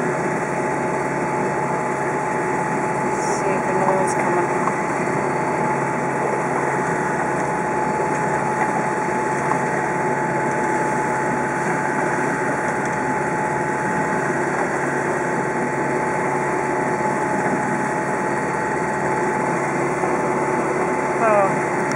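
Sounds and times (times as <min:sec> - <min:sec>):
boat engine running: 0:00.0 - 0:21.9.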